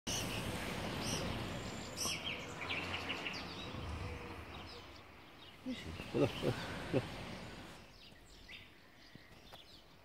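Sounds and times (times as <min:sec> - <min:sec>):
small birds chirping: 0:00.1 - 0:10.0.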